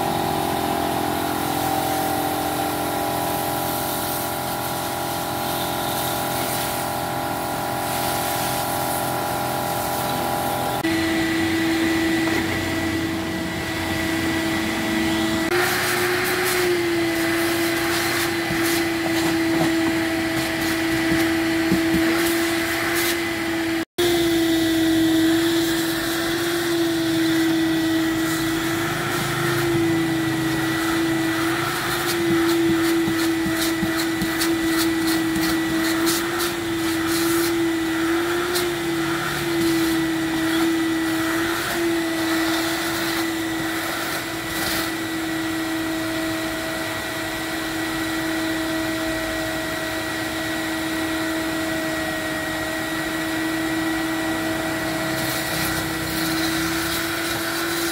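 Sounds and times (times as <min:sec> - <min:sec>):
vacuum cleaner motor whine: 0:00.0 - 0:57.9.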